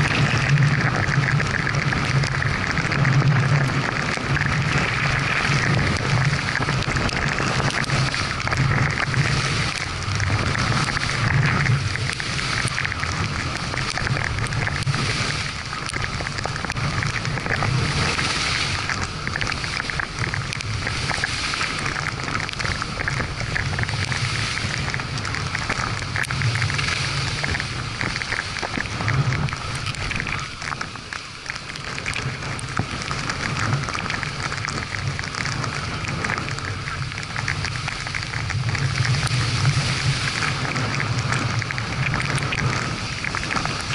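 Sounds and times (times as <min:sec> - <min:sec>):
skis scraping over snow: 0:00.0 - 0:43.9
wind buffeting microphone: 0:00.0 - 0:43.9.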